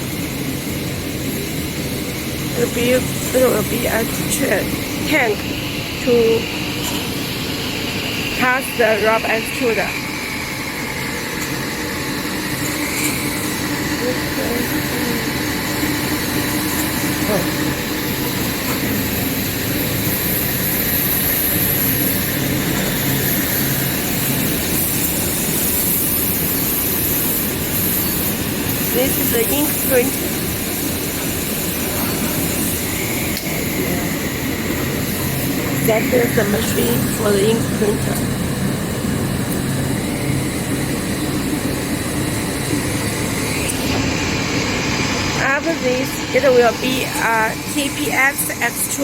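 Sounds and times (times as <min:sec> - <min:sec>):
constant high hiss: 0:00.0 - 0:49.0
production-line machinery drone: 0:00.0 - 0:49.0.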